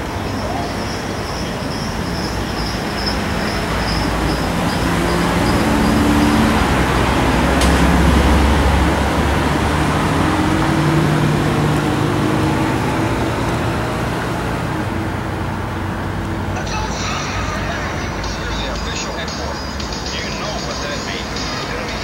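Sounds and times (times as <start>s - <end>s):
road noise: 0.0s - 22.0s
vehicle engine running: 0.0s - 22.0s.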